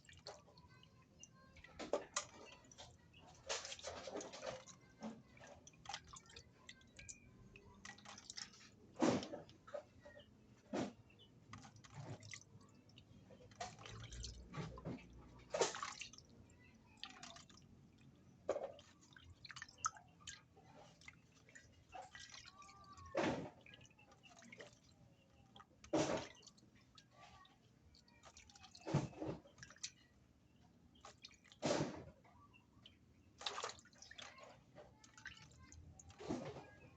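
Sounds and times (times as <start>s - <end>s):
drips falling into water: 0.0s - 36.9s
water splashing and sloshing: 0.0s - 36.9s.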